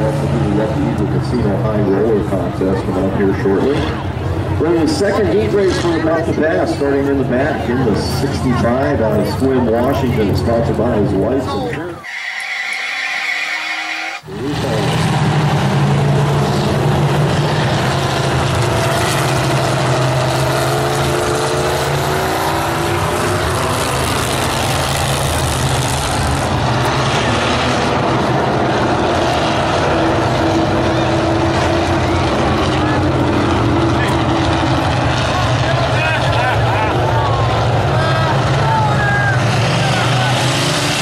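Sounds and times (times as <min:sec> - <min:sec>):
race car engines passing: 0:00.0 - 0:41.0.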